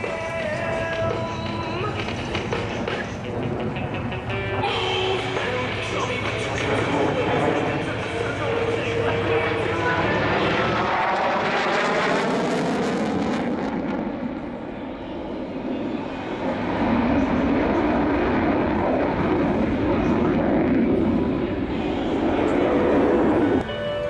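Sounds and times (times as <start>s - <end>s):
fighter jet engine roaring: 0.0s - 24.0s.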